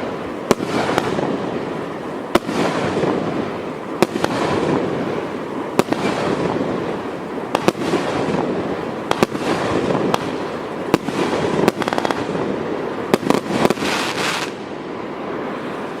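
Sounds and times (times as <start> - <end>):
firework bangs: 0.0 - 15.9
firework crackling hiss: 0.0 - 16.0.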